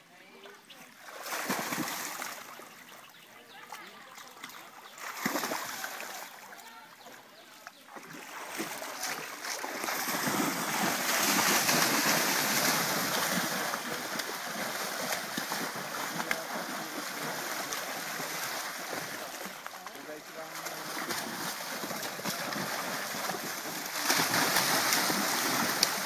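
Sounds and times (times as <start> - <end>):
water churning and splashing: 0.8 - 26.0.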